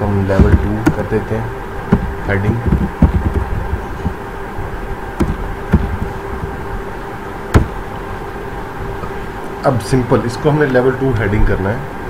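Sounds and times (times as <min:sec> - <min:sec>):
electrical buzzing hum: 0:00.0 - 0:12.0.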